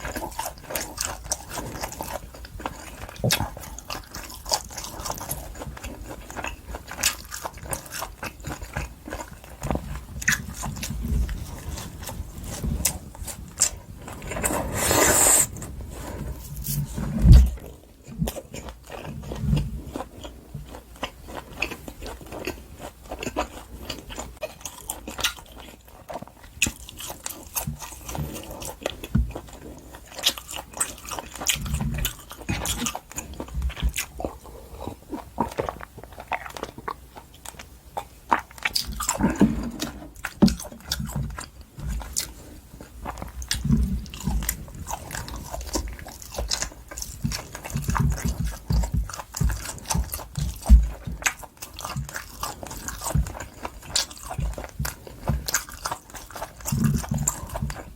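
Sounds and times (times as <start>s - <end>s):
chewing steak: 0.0s - 57.9s.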